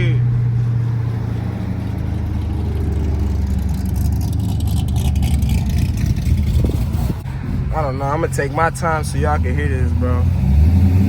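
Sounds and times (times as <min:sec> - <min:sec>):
car engine choppy lope: 0:00.0 - 0:11.0.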